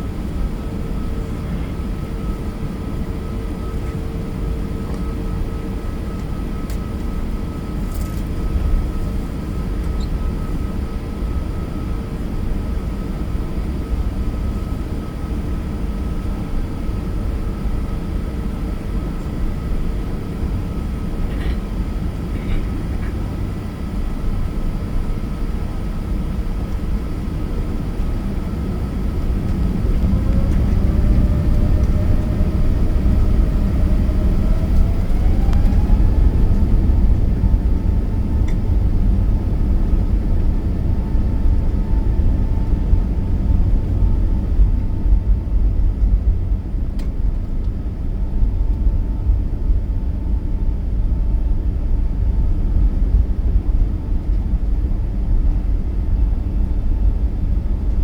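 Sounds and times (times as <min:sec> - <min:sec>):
jet engine rumble: 0:00.0 - 0:58.0
jet engine whine: 0:00.0 - 0:58.0.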